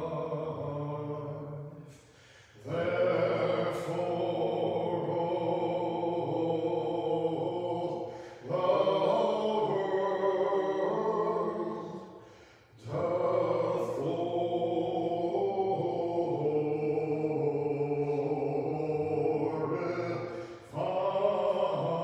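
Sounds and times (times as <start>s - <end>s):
choir chanting a cappella: 0.0s - 22.0s.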